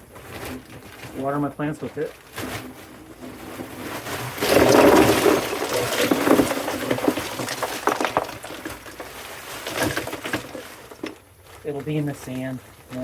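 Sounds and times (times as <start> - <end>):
water pouring and splashing: 0.0 - 11.7.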